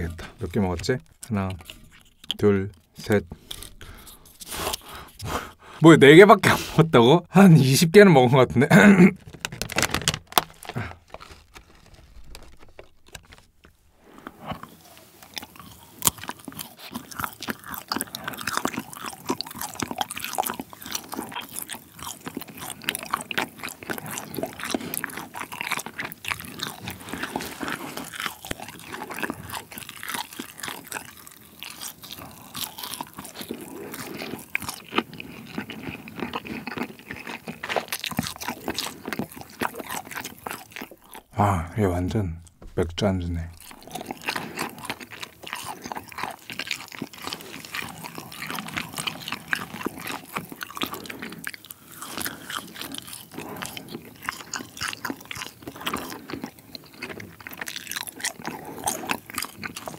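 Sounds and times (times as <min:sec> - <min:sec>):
biting and chewing crunches: 0:00.0 - 0:06.8, 0:08.9 - 0:59.9.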